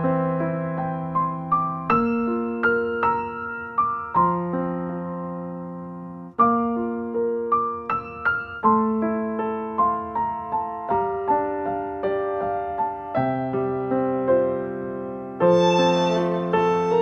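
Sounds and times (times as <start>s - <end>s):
electric piano melody: 0.0s - 17.0s.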